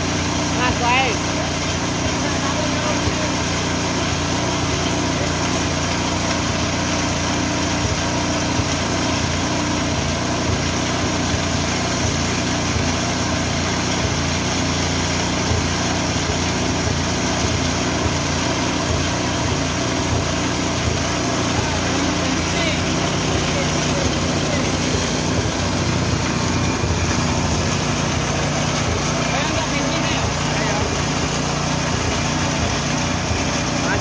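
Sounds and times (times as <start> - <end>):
grain mill running: 0.0 - 34.0.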